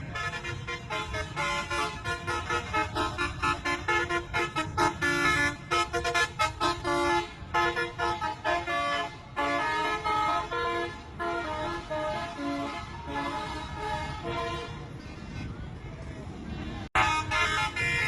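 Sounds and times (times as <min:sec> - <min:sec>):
bus horn playing melody: 0:00.0 - 0:15.0, 0:17.0 - 0:18.0.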